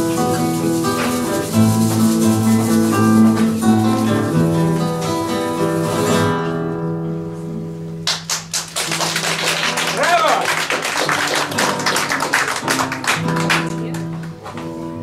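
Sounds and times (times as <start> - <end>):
nylon-string guitars playing flamenco: 0.0 - 15.0.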